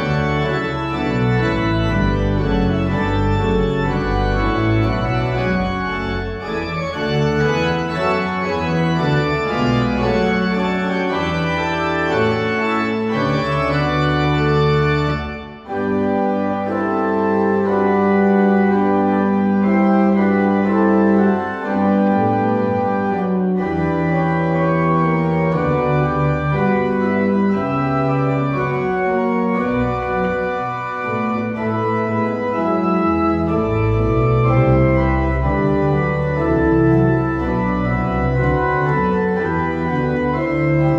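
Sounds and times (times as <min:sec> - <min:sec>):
organ playing sustained chords: 0:00.0 - 0:40.9.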